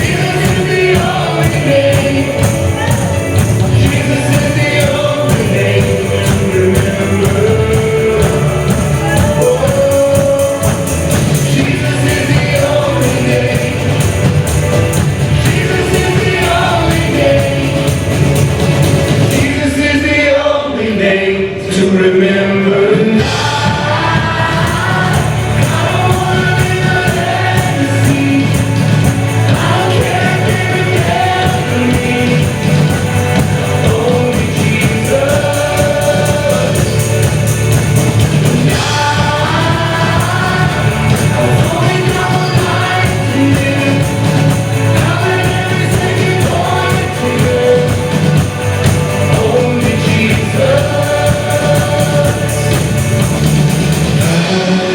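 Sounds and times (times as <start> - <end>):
instrumental accompaniment: 0.0 - 19.7, 23.2 - 54.9
voices singing together: 0.0 - 54.9.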